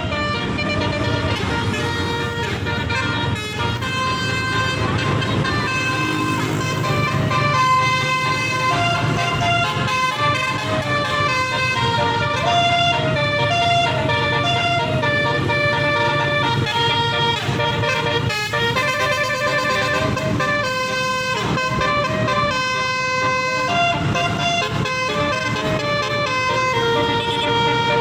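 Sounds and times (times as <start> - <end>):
melodic multi-tone bus horn: 0.0 - 28.0.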